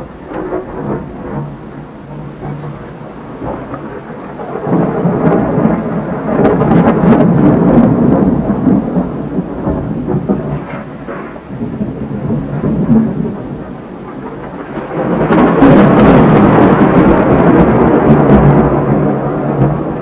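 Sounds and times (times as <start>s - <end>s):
rain: 0.0s - 20.0s
thunder rumbling: 0.0s - 20.0s.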